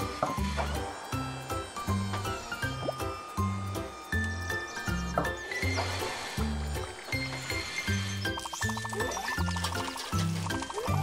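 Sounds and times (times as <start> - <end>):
upbeat cartoon music: 0.0 - 11.0.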